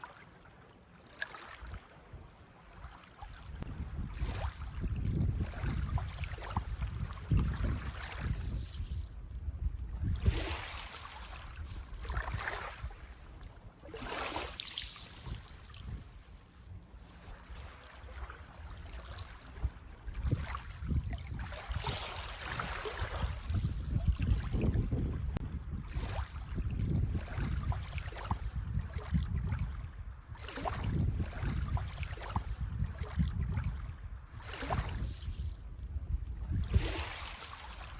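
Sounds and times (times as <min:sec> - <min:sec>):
small waves washing up sand: 0:01.1 - 0:25.0, 0:25.9 - 0:37.9
wind rumble on microphone: 0:03.3 - 0:14.1, 0:14.9 - 0:37.9.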